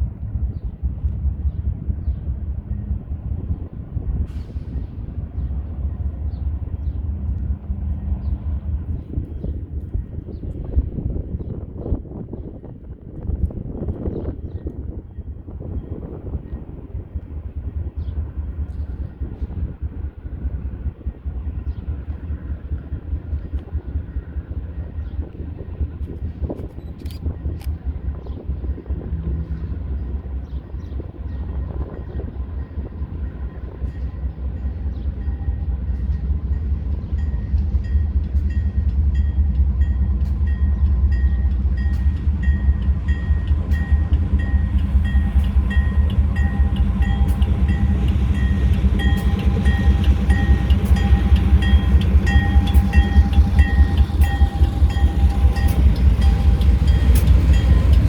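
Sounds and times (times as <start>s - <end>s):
freight train rumbling: 0.0s - 58.0s.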